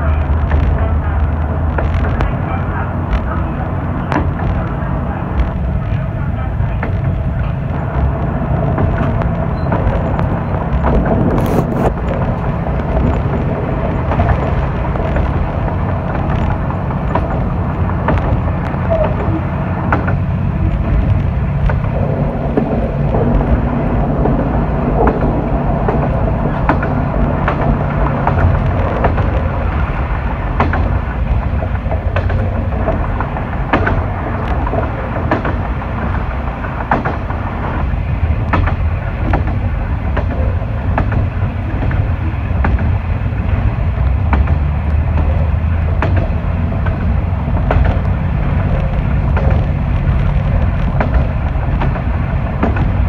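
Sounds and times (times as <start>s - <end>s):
railcar engine drone: 0.0s - 53.0s
wheels clicking over rail joints: 0.0s - 53.0s.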